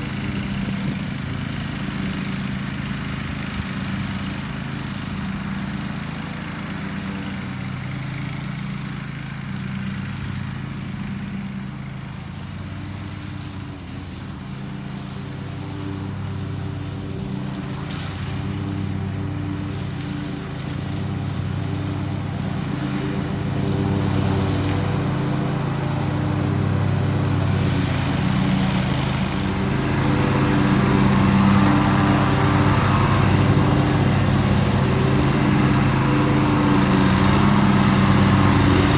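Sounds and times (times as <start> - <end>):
riding lawn mower engine: 0.0 - 38.9.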